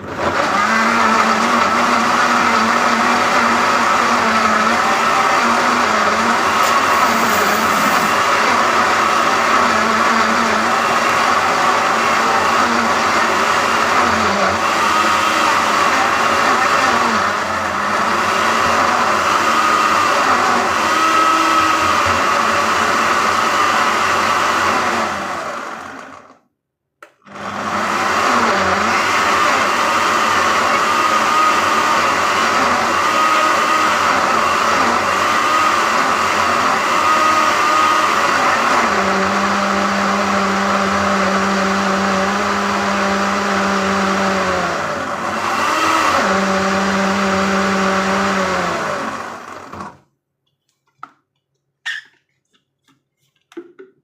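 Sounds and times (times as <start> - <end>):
blender running: 0.0 - 26.4, 27.1 - 50.1.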